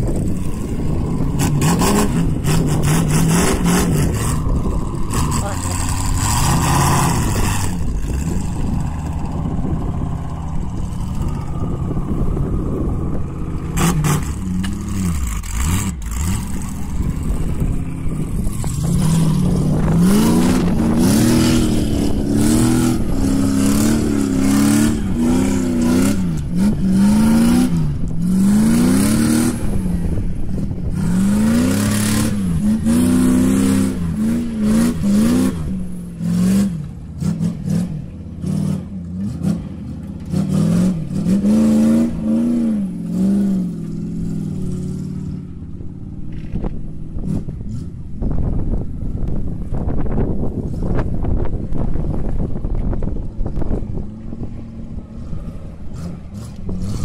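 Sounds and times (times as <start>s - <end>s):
engine revving: 0.0s - 45.6s, 53.6s - 57.0s.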